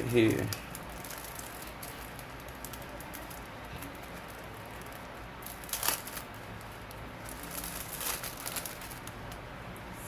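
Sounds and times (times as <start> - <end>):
crinkling rustle: 0.0 - 9.4
steady low hum: 0.0 - 10.0.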